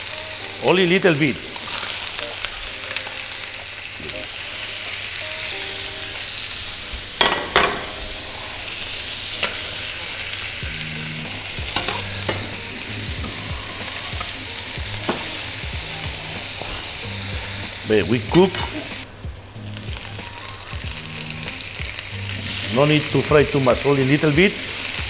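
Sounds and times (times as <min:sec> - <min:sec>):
squid sizzling in frying pan: 0:00.0 - 0:25.0.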